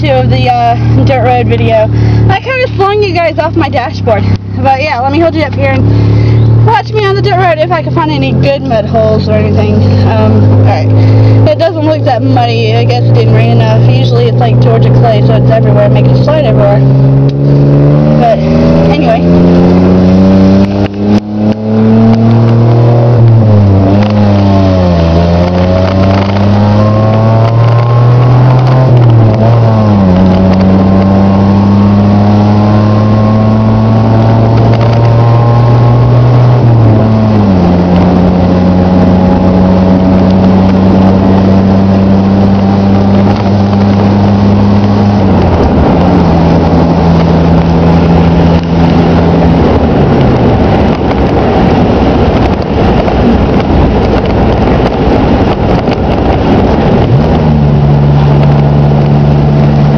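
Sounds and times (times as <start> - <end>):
car engine: 0.0 - 59.9
tyre and wind noise: 0.0 - 59.9.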